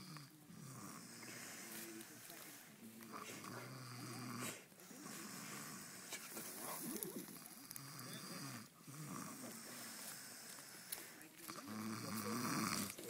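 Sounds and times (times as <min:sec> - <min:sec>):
man snoring: 0:00.0 - 0:01.8, 0:03.1 - 0:10.9, 0:11.5 - 0:13.0.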